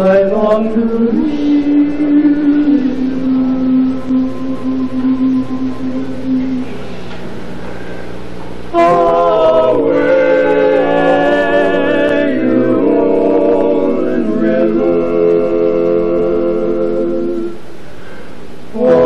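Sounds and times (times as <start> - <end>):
male quartet singing a cappella: 0.0 - 7.0, 8.7 - 17.6, 18.7 - 19.0.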